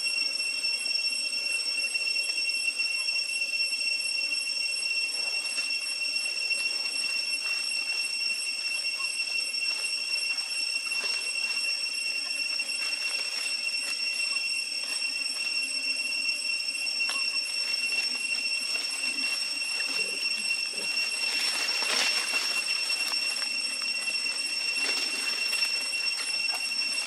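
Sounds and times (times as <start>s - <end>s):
cicadas droning: 0.0s - 27.0s.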